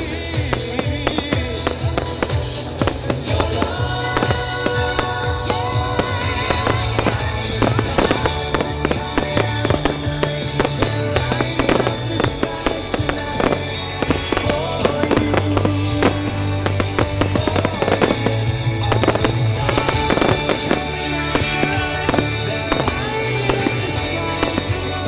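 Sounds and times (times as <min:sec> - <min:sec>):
fireworks bangs and crackles: 0:00.0 - 0:25.0
loud music: 0:00.0 - 0:25.0.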